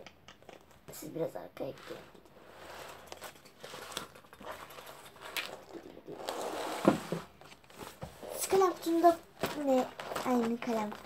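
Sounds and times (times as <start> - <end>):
plastic pencil case rustling: 1.6 - 11.0.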